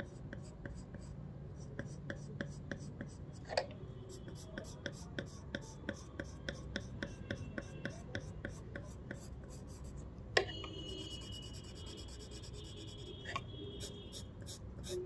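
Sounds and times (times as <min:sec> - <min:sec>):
pencil scratching on paper: 0:00.0 - 0:03.4, 0:04.1 - 0:10.1, 0:11.0 - 0:13.2, 0:13.8 - 0:15.0.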